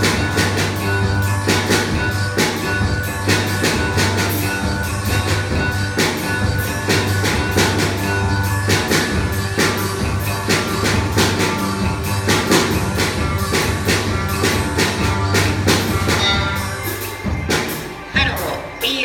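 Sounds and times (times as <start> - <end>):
drum kit steady beat: 0.0 - 19.0
electric guitars: 0.0 - 19.0.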